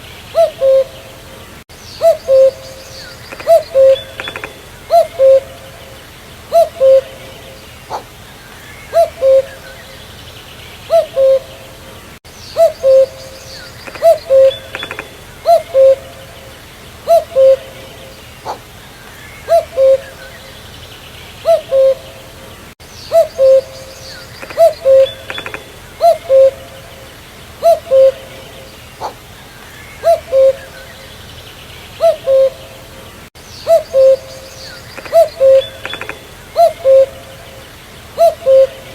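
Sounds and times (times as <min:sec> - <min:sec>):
cuckoo calling: 0:00.0 - 0:10.2, 0:10.8 - 0:20.7, 0:21.4 - 0:31.3, 0:31.9 - 0:38.9
faint bird chirps: 0:01.8 - 0:10.3, 0:12.3 - 0:22.2, 0:22.8 - 0:32.8, 0:33.4 - 0:38.9.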